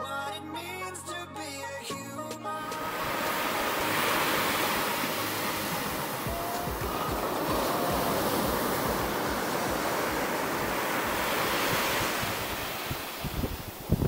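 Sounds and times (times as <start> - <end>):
ocean surf breaking: 2.6 - 14.0.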